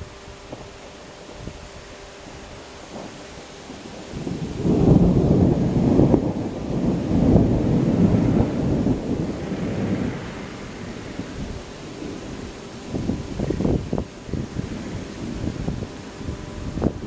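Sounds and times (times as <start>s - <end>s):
rolling thunder: 2.3s - 17.0s.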